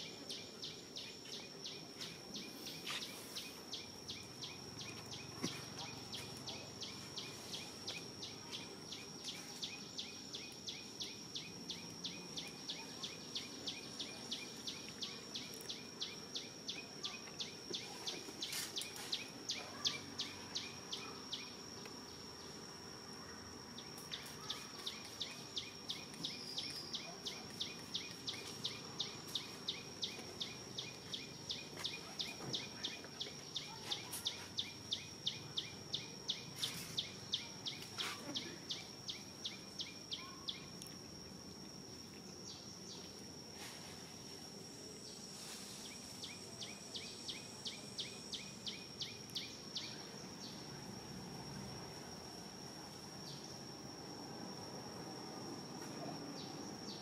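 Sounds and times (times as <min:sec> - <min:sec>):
insects whining and chirping: 0:00.0 - 0:57.0.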